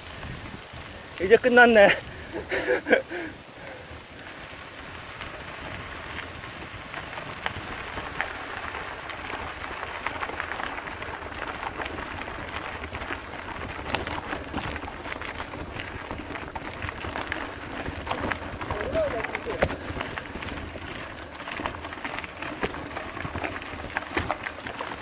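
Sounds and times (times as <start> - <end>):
gravel crunching underfoot: 0.0 - 25.0.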